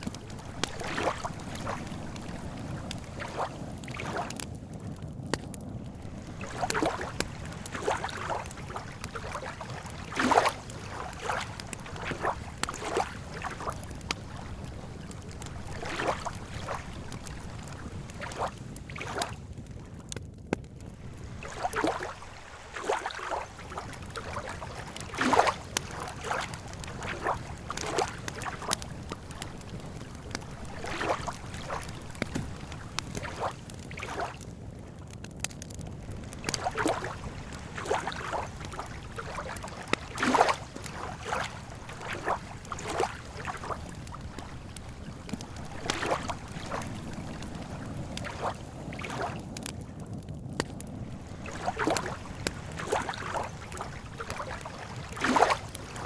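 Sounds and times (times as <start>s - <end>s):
lake water lapping: 0.0s - 4.4s, 5.9s - 20.0s, 20.8s - 34.5s, 36.1s - 49.5s, 51.1s - 56.0s
campfire crackling and popping: 0.0s - 56.0s.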